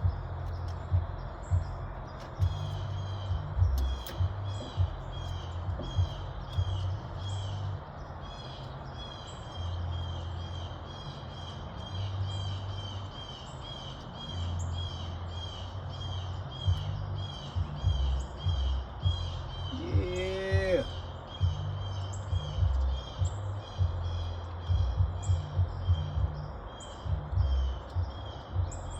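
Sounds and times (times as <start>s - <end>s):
bird calling rhythmically: 0.0s - 28.9s
low rumble: 0.0s - 28.9s.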